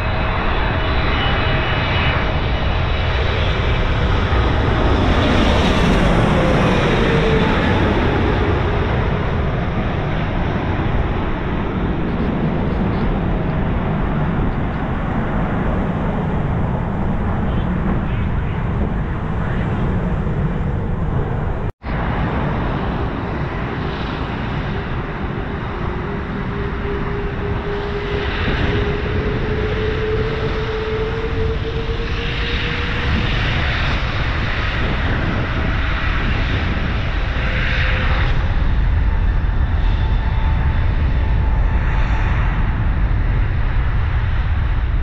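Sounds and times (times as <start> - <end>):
faint engine whine: 0.0 - 45.0
jet engines roaring: 0.0 - 45.0.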